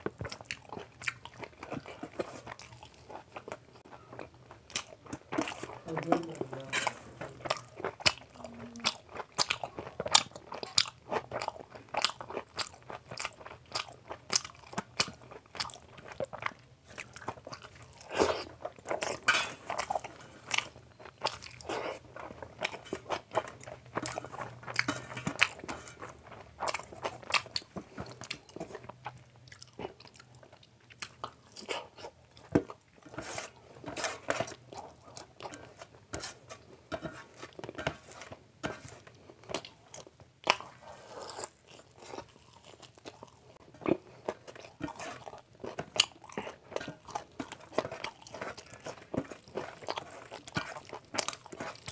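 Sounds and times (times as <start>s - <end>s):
chewing and lip-smacking: 0.0s - 36.7s, 39.0s - 51.9s.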